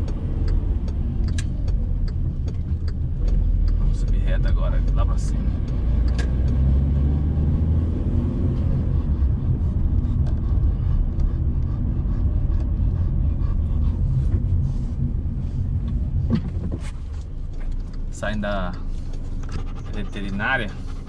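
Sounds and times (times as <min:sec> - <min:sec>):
car engine: 0:00.0 - 0:21.0
road rumble: 0:00.0 - 0:21.0.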